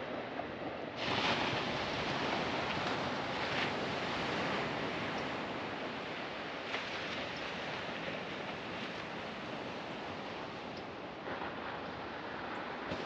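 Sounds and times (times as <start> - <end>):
ocean waves washing: 0.0 - 13.0.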